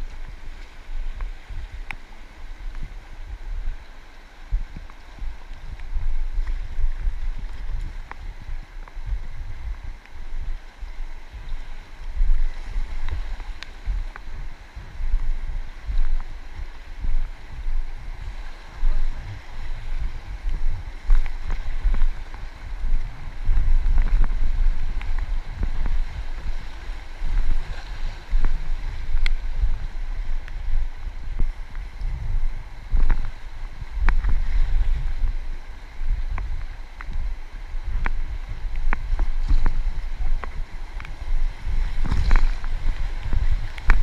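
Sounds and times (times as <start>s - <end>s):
river water rushing: 0.0s - 44.0s
wind buffeting microphone: 0.0s - 44.0s.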